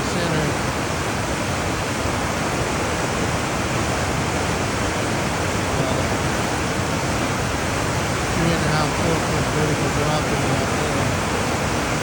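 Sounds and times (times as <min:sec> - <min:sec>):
water rushing over a drop: 0:00.0 - 0:12.0.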